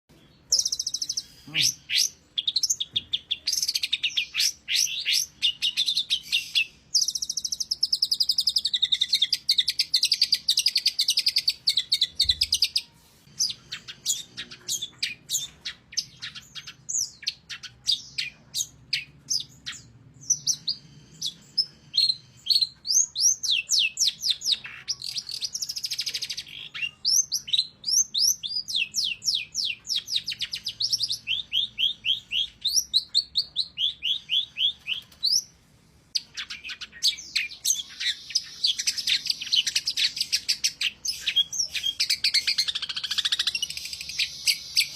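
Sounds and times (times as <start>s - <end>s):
bird singing chattering trills: 0.1s - 35.5s, 36.1s - 44.9s.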